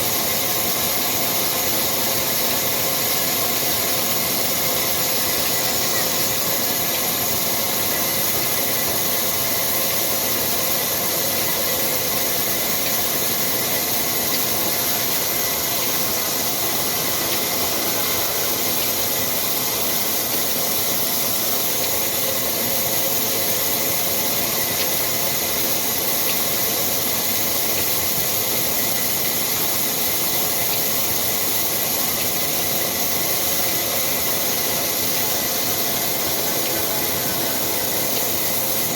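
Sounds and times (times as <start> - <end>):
thin steady whine: 0.0 - 38.9
saw machinery hissing: 0.1 - 38.9.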